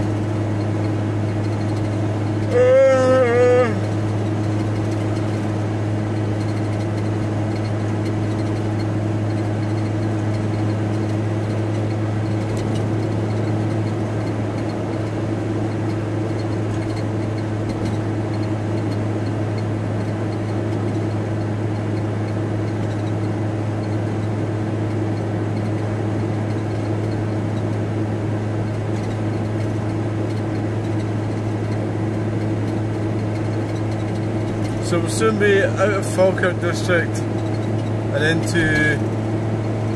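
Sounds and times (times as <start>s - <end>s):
van engine and road noise: 0.0s - 39.9s.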